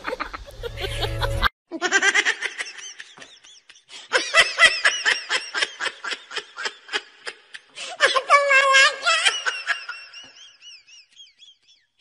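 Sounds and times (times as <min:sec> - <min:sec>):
high-pitched laughter: 0:00.0 - 0:11.7.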